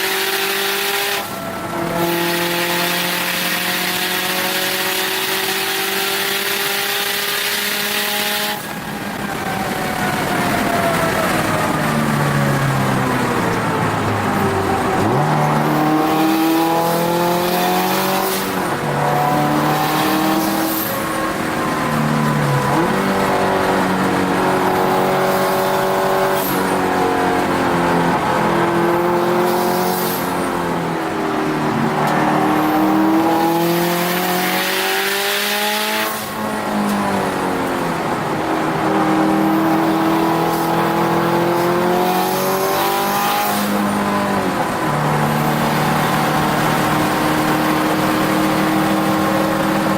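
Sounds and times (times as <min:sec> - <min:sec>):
car engine revving in-car: 0:00.0 - 0:49.9.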